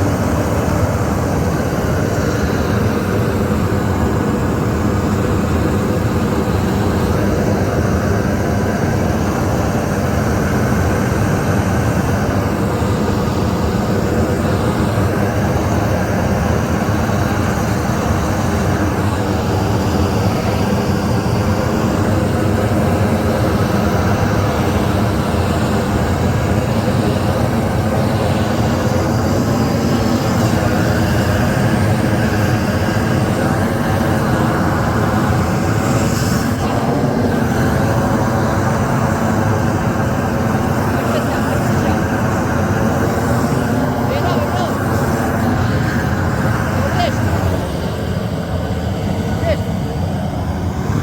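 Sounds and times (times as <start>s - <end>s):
loud steady running noise: 0.0s - 51.0s.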